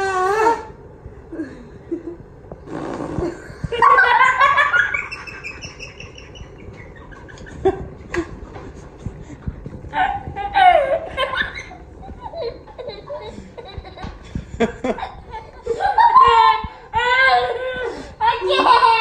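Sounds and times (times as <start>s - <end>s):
children laughing: 3.2s - 19.0s.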